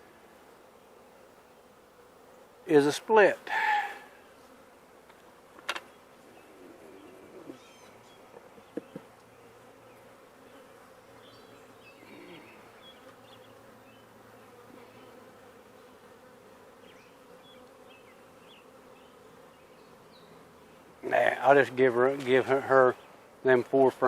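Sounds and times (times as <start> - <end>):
honey bees humming: 0.0 - 24.0.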